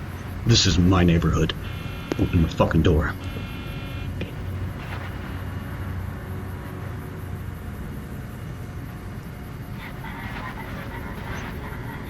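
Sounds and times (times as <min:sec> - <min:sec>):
background hiss: 0:00.0 - 0:12.0
low hum: 0:00.0 - 0:12.0.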